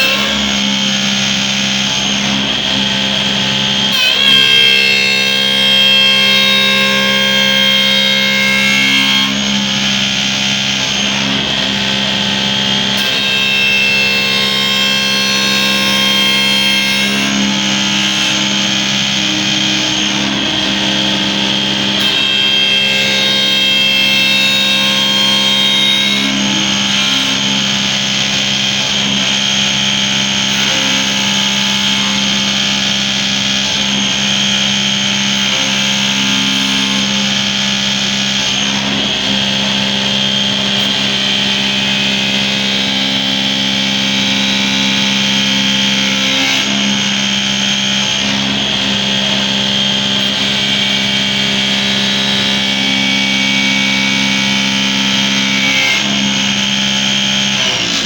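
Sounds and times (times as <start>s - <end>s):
wood lathe motors whining: 0.0s - 58.0s.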